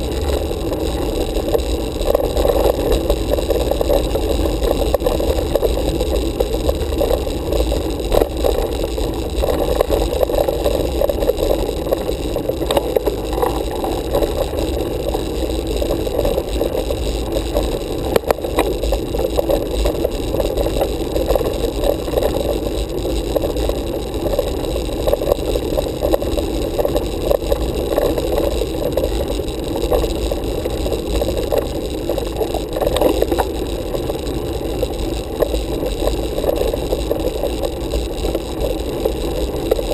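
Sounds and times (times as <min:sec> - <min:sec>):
bicycle tyres rumbling on road: 0:00.0 - 0:39.9.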